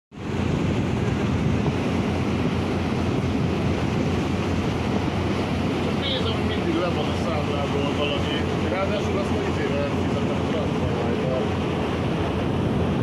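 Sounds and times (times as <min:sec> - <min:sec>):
boat engine rumble: 0:00.1 - 0:13.0
rushing water: 0:00.1 - 0:13.0
wind buffeting microphone: 0:00.1 - 0:13.0.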